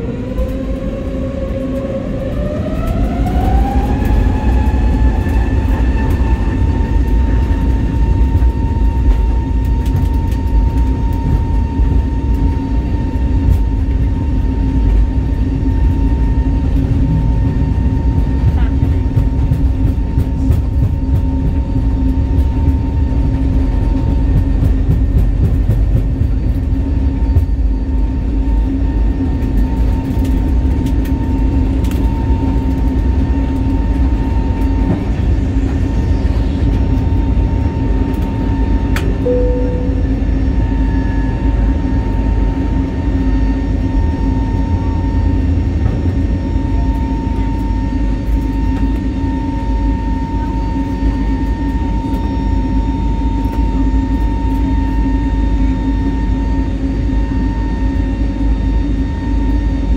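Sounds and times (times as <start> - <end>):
engine hum: 0.0 - 49.4
airliner cabin rumble: 0.0 - 59.9.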